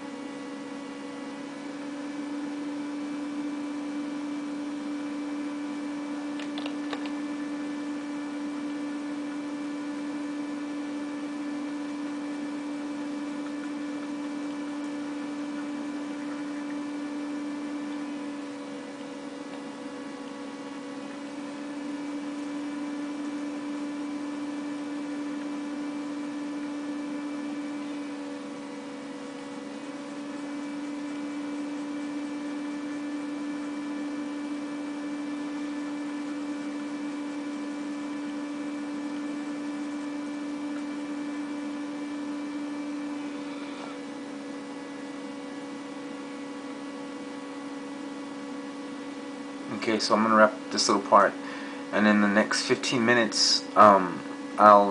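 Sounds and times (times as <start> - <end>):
electrical hum: 0.0 - 54.9.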